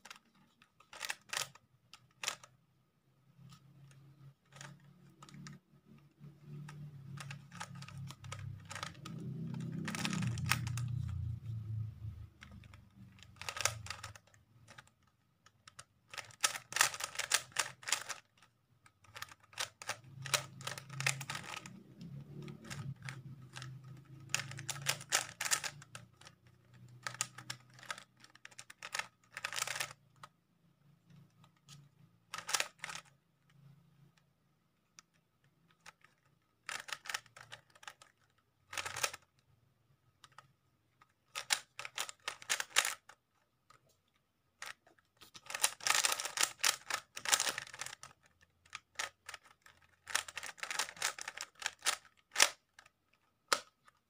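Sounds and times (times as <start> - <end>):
puzzle cube clicking: 0.0 - 2.6, 3.3 - 34.1, 35.0 - 39.4, 40.1 - 54.0.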